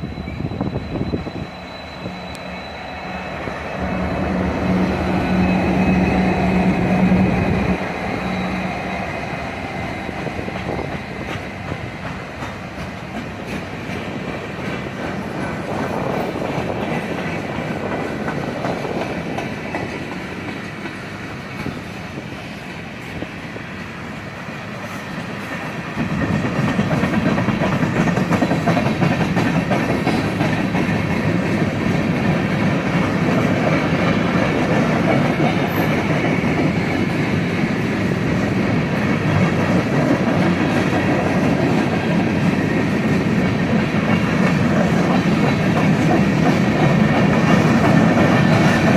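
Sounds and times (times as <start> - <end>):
railroad cars rolling on track: 0.0 - 48.9.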